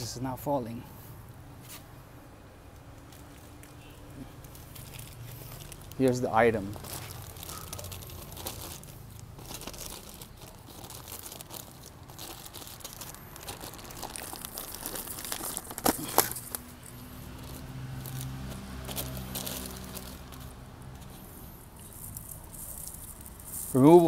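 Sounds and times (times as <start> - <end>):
plastic packaging crinkling: 2.9 - 24.0.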